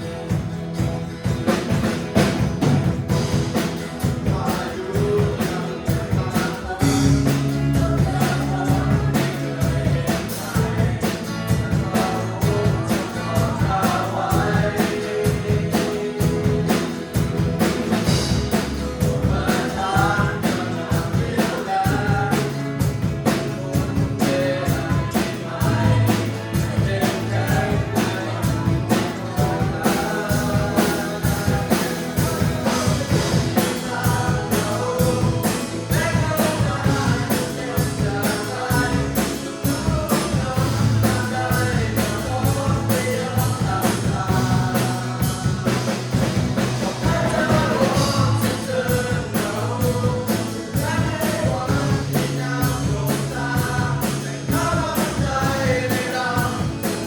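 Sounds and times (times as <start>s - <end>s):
full band with drum beat: 0.0s - 57.0s
worship song singing: 0.0s - 57.0s.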